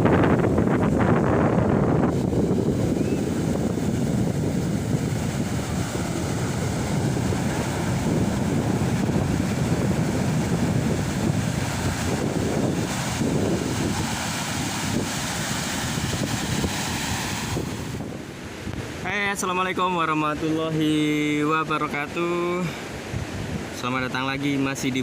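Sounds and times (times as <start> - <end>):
ocean surf breaking: 0.0 - 25.0
wind rumbling on microphone: 0.0 - 25.0.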